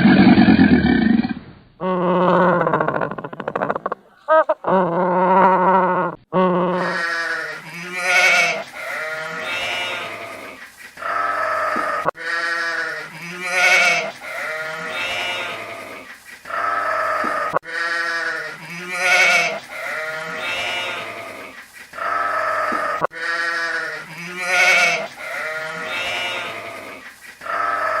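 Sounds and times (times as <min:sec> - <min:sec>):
wavering bleats: 0:01.8 - 0:28.0.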